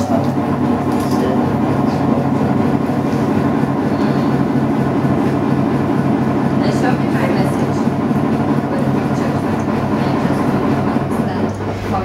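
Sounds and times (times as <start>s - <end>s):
potter's wheel humming: 0.0s - 12.0s.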